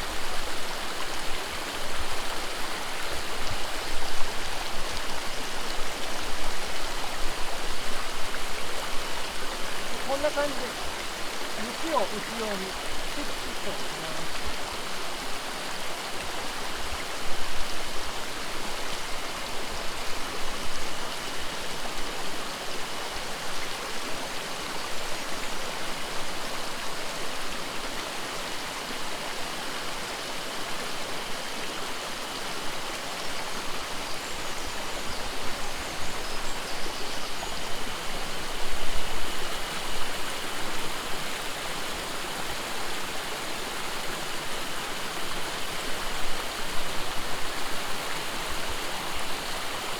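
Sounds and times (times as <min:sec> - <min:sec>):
mountain stream rushing: 0:00.0 - 0:49.9.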